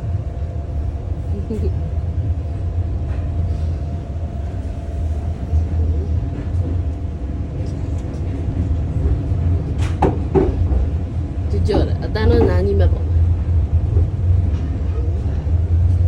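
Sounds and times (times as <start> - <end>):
faint constant hum: 0.0 - 16.0
train running rumble: 0.0 - 16.0.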